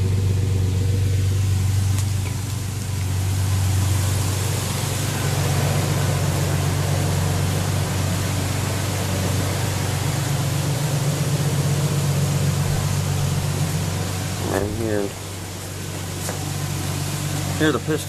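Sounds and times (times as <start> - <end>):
pickup engine idling: 0.0 - 18.0
even hiss: 0.3 - 18.0.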